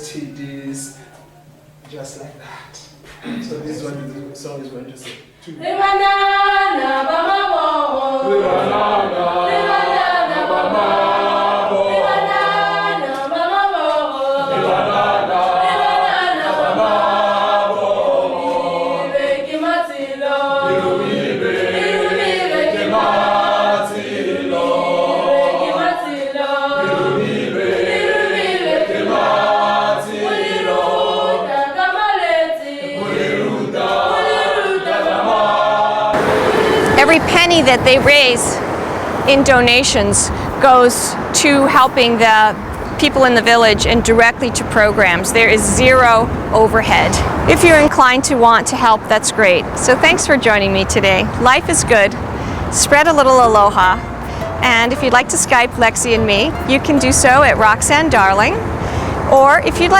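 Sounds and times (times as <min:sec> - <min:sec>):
choir singing: 0:05.5 - 0:58.8.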